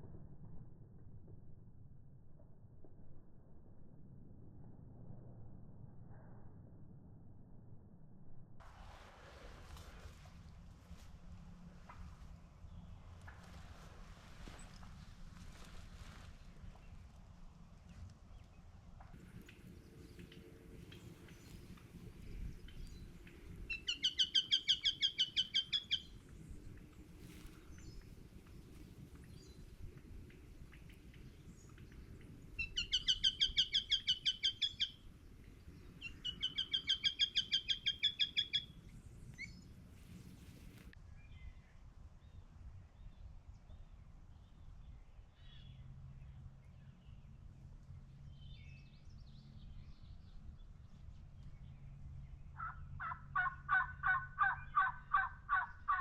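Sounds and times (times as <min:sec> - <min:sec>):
low outdoor background: 0:00.0 - 0:56.0.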